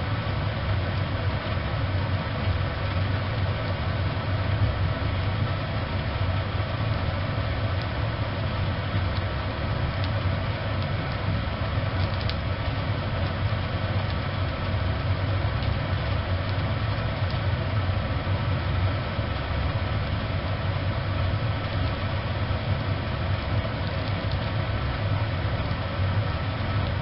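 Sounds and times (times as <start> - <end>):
fire crackles: 0.0 - 27.0
wood fire rumbling in a stove: 0.0 - 27.0.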